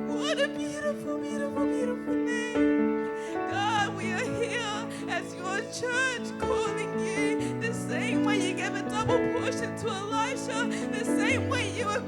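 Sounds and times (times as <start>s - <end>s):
person singing with vibrato: 0.0s - 12.0s.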